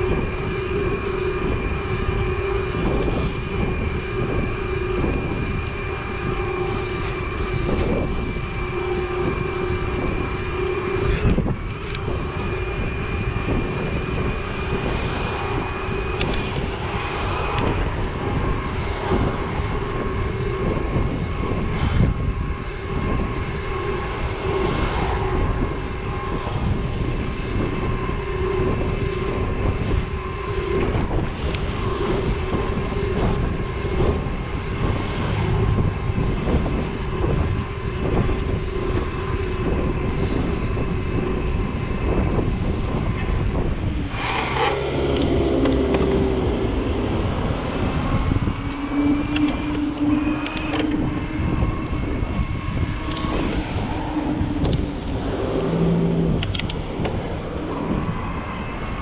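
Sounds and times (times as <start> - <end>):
electric motor whine: 0.0 - 59.0
tyre and wind noise: 0.0 - 59.0.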